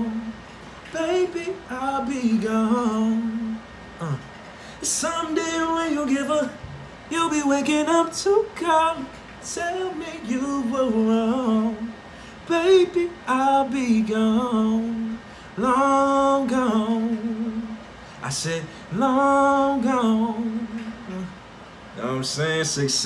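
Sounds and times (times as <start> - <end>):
man singing wordless held notes: 0.0 - 23.0.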